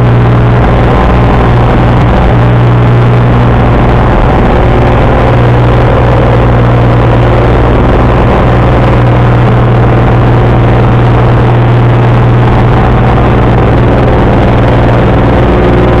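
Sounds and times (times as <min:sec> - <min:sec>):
airplane engine drone in cabin: 0:00.0 - 0:16.0.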